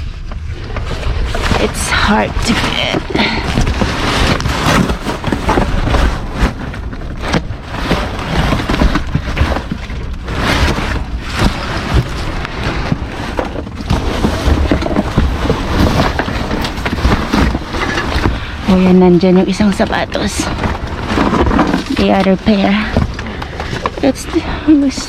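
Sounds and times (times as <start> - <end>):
items knocking and scraping: 0.0 - 25.0
trash bags rustling: 0.6 - 25.0.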